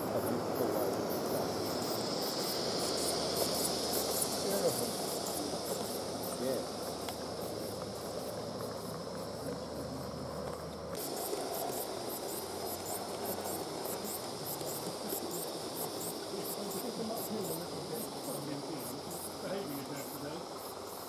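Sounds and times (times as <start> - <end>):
wheels rumbling on track: 0.0 - 17.8.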